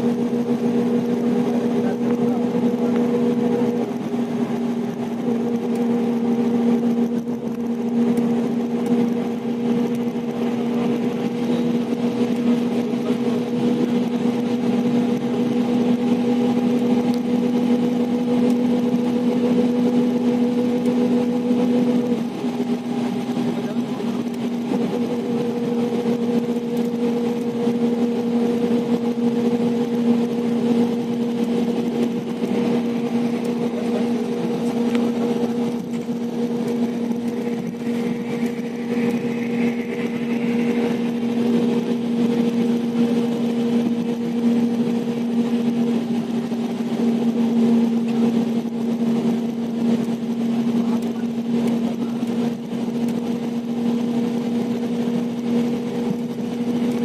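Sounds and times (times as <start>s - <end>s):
engine noise: 0.0s - 57.0s
low cabin hum: 0.0s - 57.0s
road noise: 0.0s - 57.0s.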